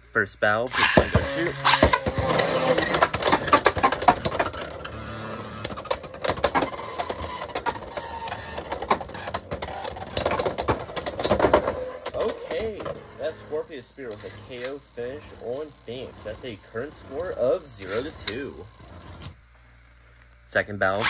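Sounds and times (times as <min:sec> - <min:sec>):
spinning tops whirring on plastic: 0:00.7 - 0:19.4.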